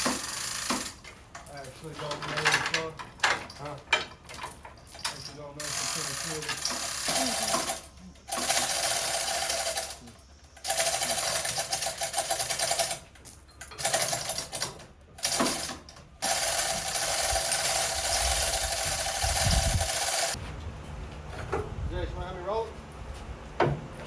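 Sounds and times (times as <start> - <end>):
power tool rattling: 0.0 - 20.4.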